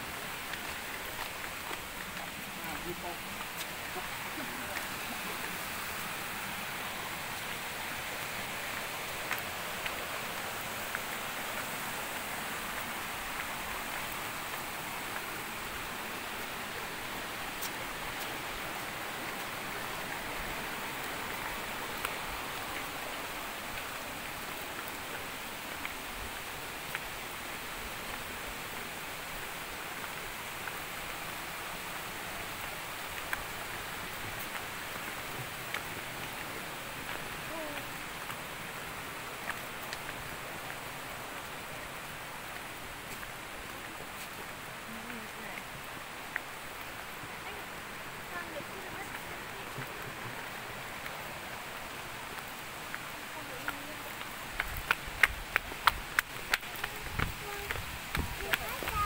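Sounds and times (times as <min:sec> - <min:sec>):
stream water flowing: 0:00.0 - 0:59.0.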